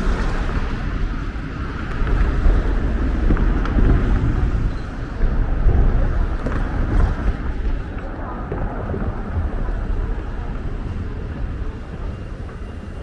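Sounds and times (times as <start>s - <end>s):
low rumble of city noise: 0.0s - 13.0s
wind buffeting microphone: 0.0s - 13.0s.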